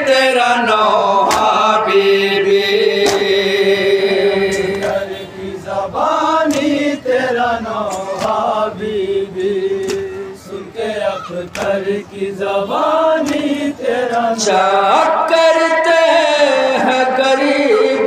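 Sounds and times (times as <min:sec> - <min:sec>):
men chanting through a microphone: 0:00.0 - 0:18.0.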